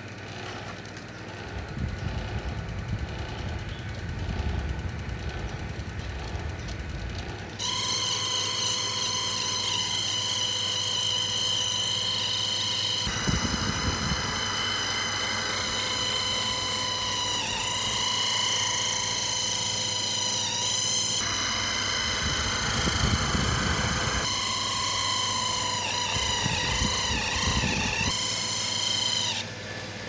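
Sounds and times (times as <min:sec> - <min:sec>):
electric fan motor whining: 0:00.0 - 0:30.0.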